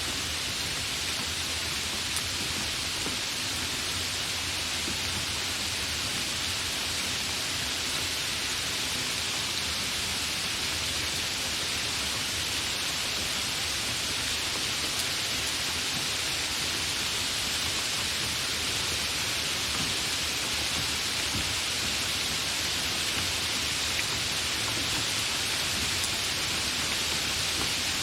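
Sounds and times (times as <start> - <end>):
heavy rainfall hiss: 0.0 - 28.0.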